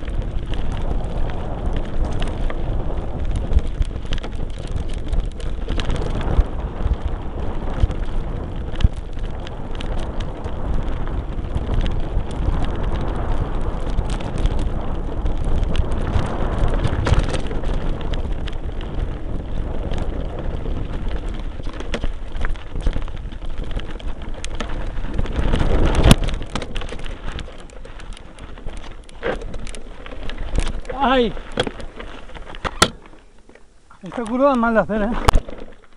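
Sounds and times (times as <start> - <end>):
mountain bike rattling: 0.0 - 35.9
tyres crunching on loose ground: 0.0 - 35.9.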